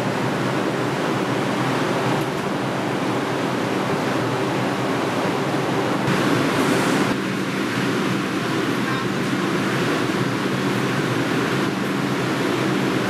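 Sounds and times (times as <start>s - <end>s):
train air conditioning rushing hum: 0.0s - 13.0s.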